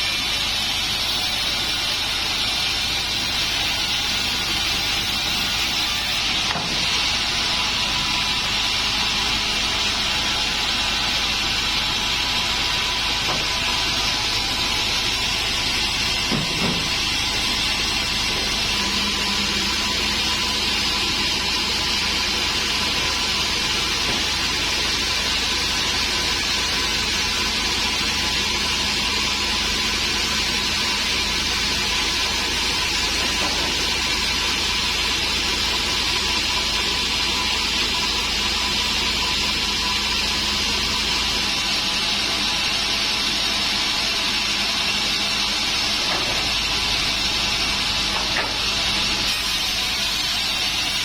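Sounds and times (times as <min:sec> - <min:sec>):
band saw cutting wood: 0:00.0 - 0:51.0.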